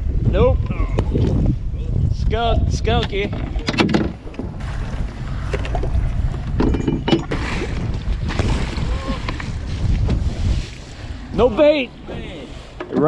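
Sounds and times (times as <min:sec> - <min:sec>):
wind buffeting microphone: 0:00.0 - 0:13.0
water slapping boat hull: 0:02.2 - 0:13.0.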